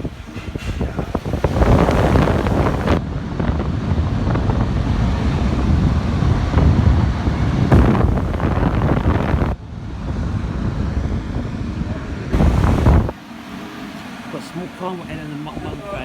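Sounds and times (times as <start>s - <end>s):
fan wind buffeting microphone: 0.0s - 16.0s.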